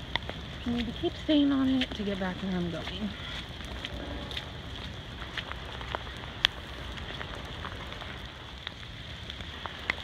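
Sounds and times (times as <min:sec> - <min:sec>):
hard rain falling: 0:00.0 - 0:10.0
steady low rumble: 0:00.0 - 0:10.0.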